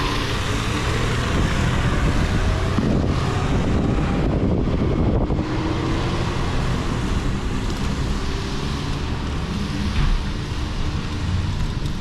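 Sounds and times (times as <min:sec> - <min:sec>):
engine and road rumble: 0:00.0 - 0:12.0
wind noise on microphone: 0:00.0 - 0:12.0.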